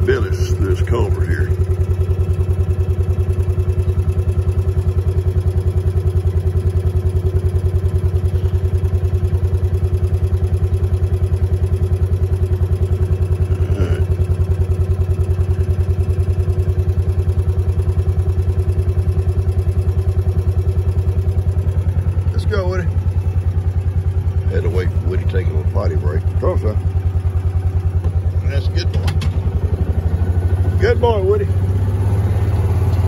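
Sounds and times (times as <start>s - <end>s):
vehicle engine running steadily: 0.0s - 33.0s.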